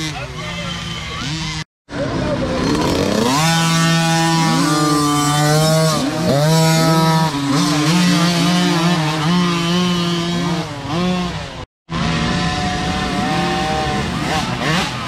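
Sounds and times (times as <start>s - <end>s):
dirt bike engines revving past: 0.0s - 15.0s.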